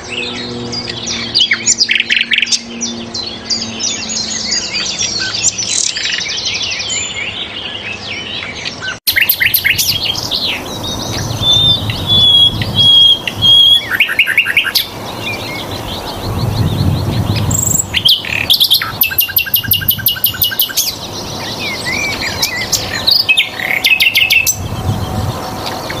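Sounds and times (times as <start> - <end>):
bird singing trills and whistles: 0.0 - 26.0.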